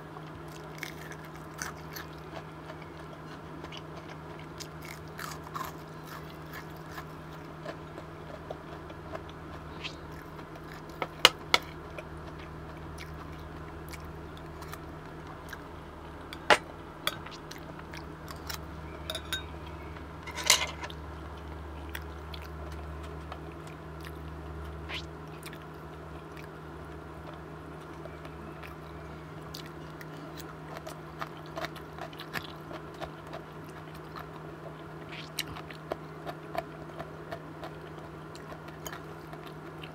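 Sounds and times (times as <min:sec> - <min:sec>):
steady low hum: 0:00.0 - 0:39.9
chewing food: 0:00.2 - 0:20.0, 0:20.8 - 0:39.9.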